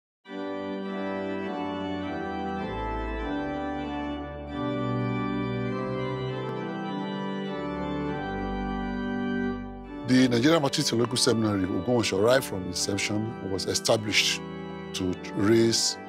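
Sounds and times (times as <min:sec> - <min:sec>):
sustained organ chords: 0:00.3 - 0:16.0.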